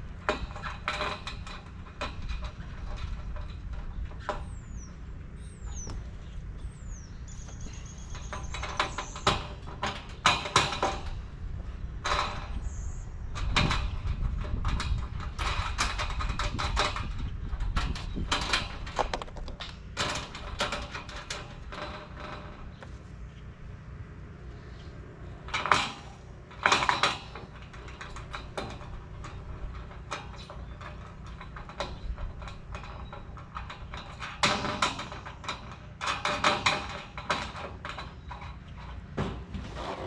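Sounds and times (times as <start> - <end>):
metal panels clanking: 0.0 - 40.0.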